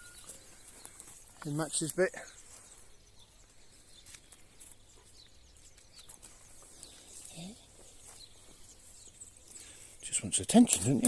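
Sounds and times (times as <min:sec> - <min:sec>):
faint bird chirps: 0:00.0 - 0:10.5.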